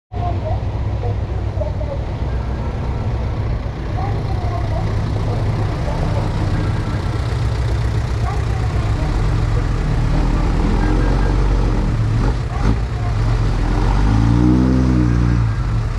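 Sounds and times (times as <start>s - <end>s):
diesel machinery rumbling: 0.1s - 15.9s.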